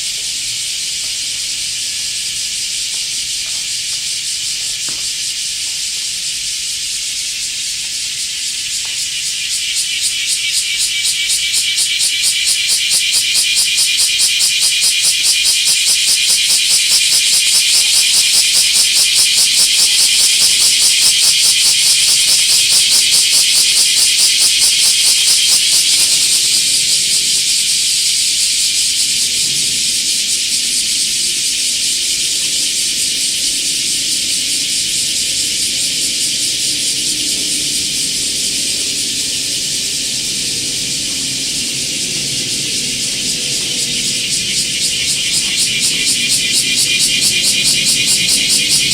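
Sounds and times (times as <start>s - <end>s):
cicada buzzing: 0.0s - 48.9s.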